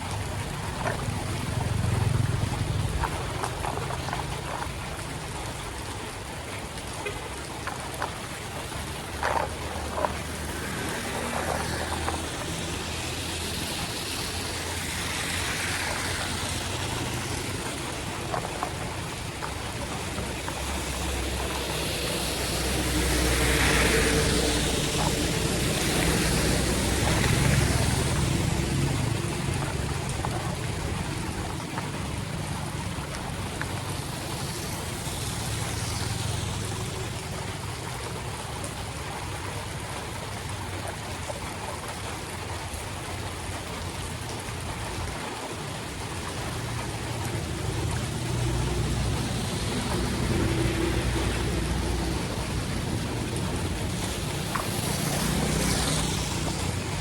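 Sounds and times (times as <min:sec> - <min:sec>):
floodwater running into a drain: 0:00.0 - 0:57.0
vehicle driving through water: 0:00.0 - 0:57.0.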